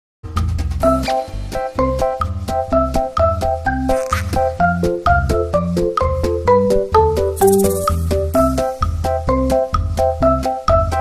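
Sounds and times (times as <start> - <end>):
keyboard melody with bass and beat: 0.4 - 11.0.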